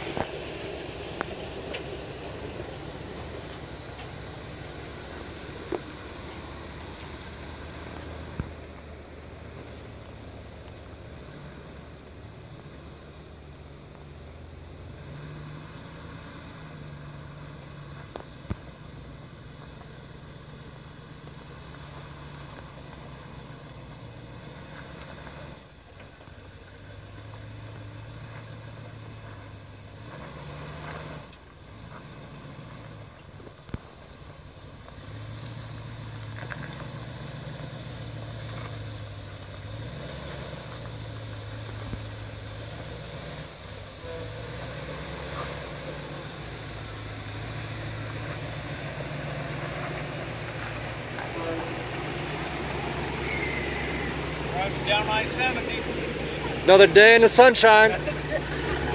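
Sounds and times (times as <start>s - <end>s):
suv engine revving: 0.0s - 58.9s.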